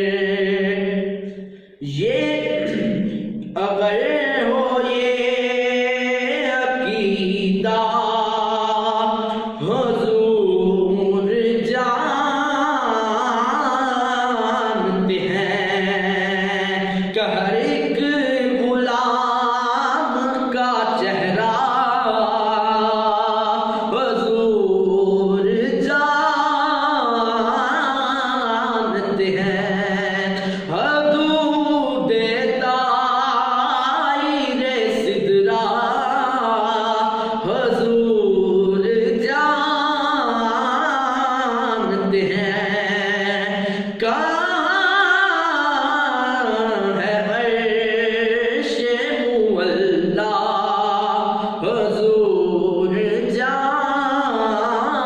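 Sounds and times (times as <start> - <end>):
man singing unaccompanied: 1.8 - 55.0.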